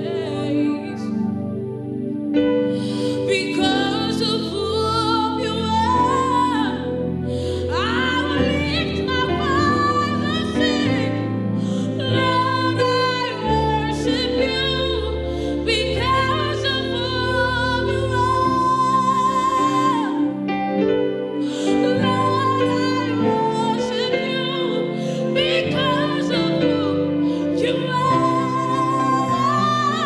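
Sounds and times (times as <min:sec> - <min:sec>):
sustained chords: 0:00.0 - 0:30.0.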